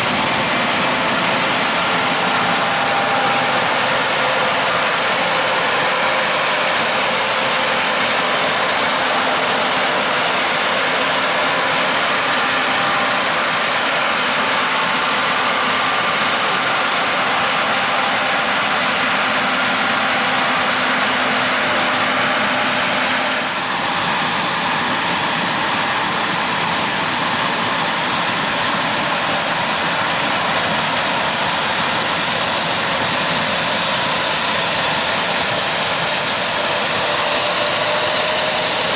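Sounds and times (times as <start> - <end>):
harvesters and tractors running: 0.0 - 38.9.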